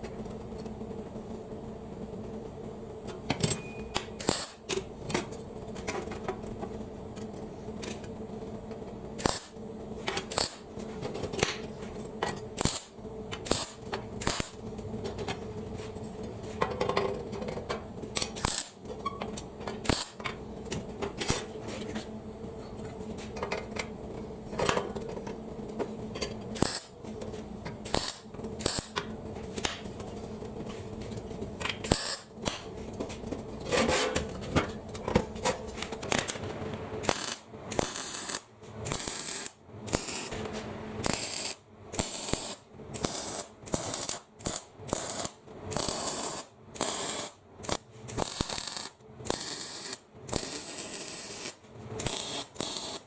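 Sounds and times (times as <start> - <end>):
steady machine hum: 0.0 - 48.1.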